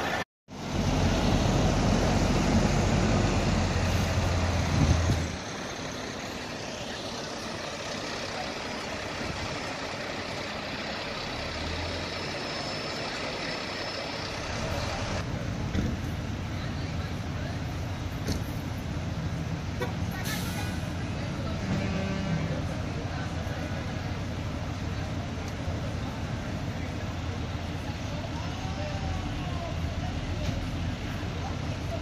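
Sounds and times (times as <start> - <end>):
street noise: 0.0 - 32.0
fire truck diesel engine idling: 0.6 - 21.6, 22.4 - 32.0.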